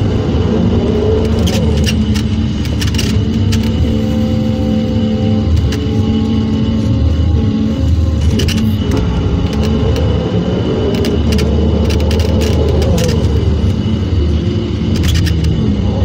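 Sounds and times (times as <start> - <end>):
excavator heavy drone: 0.0 - 16.0.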